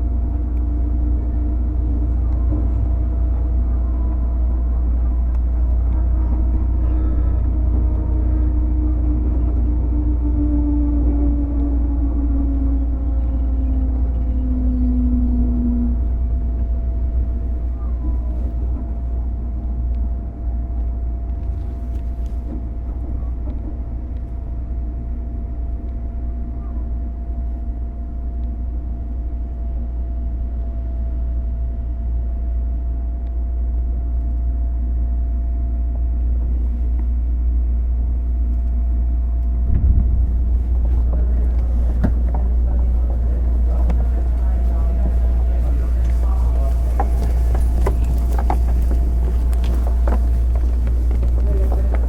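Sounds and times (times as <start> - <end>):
train motors and wheels rumbling: 0.0 - 52.0.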